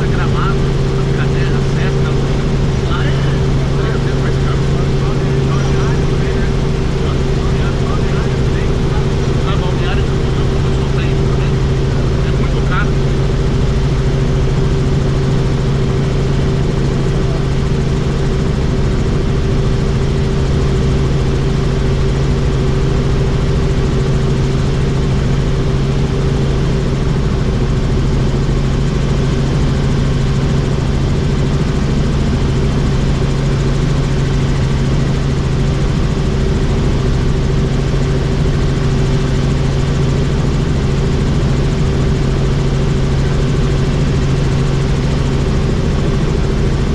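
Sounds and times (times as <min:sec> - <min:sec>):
helicopter rotor and engine drone: 0:00.0 - 0:46.9.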